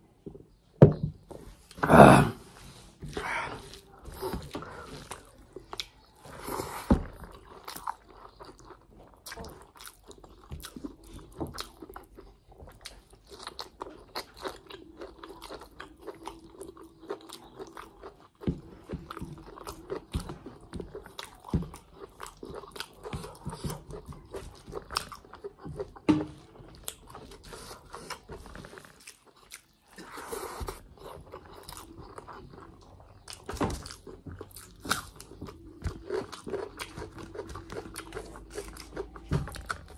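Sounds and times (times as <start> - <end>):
person chewing food: 3.0 - 39.9.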